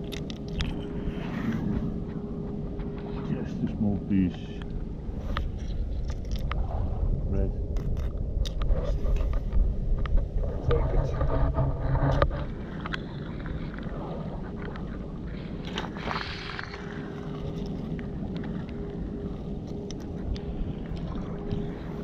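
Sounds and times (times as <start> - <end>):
boat engine drone: 0.0 - 8.4, 9.0 - 22.0
held hum: 0.0 - 22.0.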